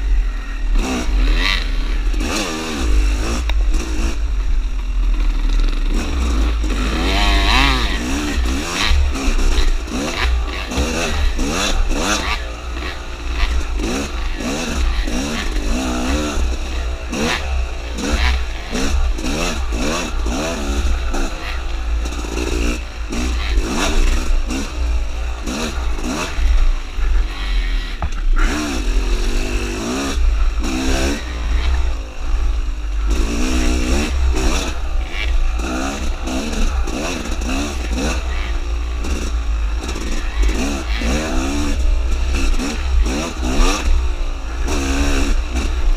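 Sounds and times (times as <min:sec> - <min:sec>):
dirt bike engine revving: 0:00.0 - 0:45.9
knocks and rattles of bike: 0:00.0 - 0:45.9.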